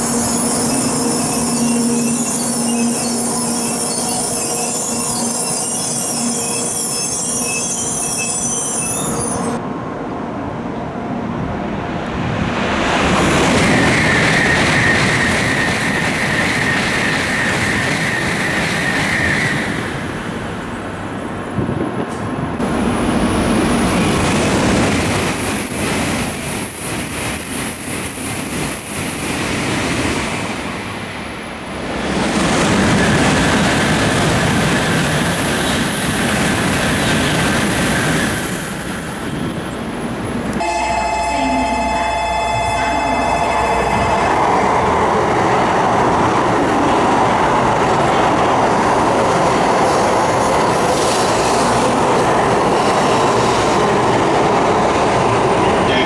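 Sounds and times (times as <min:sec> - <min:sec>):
high-speed train rushing past: 0:00.0 - 0:56.0.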